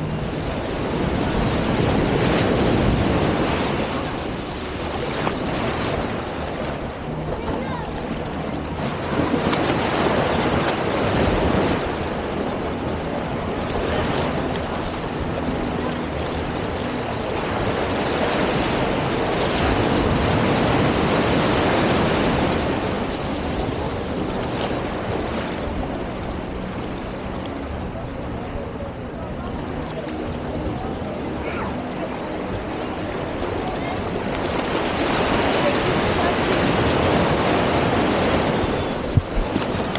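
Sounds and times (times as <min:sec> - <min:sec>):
ocean surf breaking on beach: 0:00.0 - 0:39.9
wind buffeting microphone: 0:00.0 - 0:39.9.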